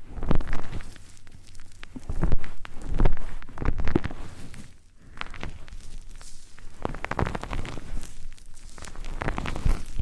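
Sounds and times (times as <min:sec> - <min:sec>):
soft clicks and crackles: 0:00.0 - 0:10.0.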